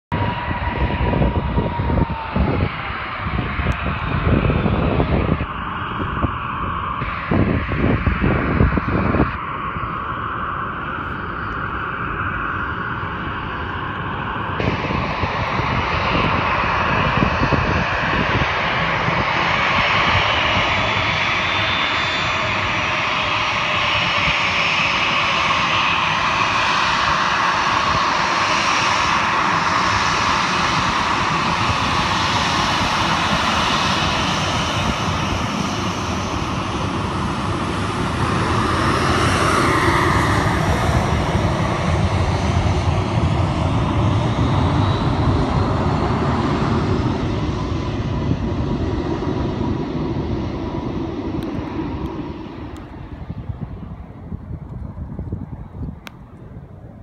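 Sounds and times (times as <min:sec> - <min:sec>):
jet engines rumbling: 0:00.0 - 0:57.0
wind buffeting microphone: 0:00.1 - 0:57.0.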